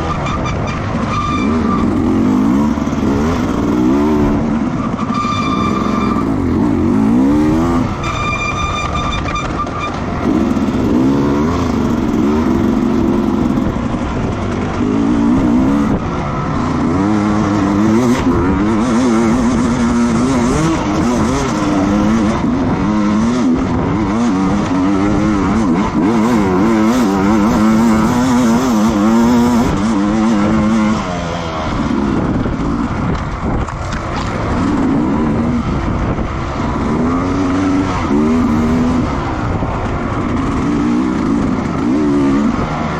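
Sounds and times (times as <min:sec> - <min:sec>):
racing motorcycle engines revving: 0:00.0 - 0:42.9.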